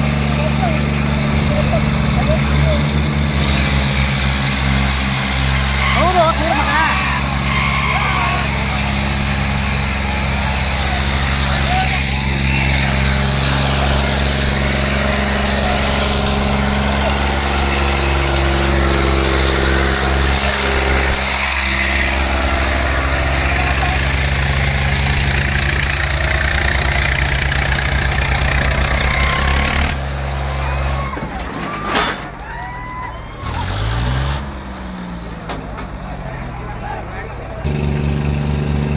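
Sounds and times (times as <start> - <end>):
crowd voices: 0.0 - 38.9
diesel tractor engines running hard: 0.0 - 38.9.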